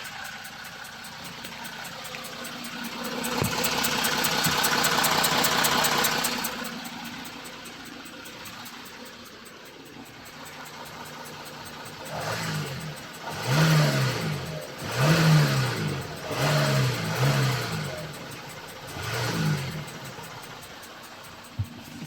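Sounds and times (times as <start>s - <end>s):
diesel engine idling and revving: 0.0s - 22.0s
light ticking from engine: 0.0s - 22.0s.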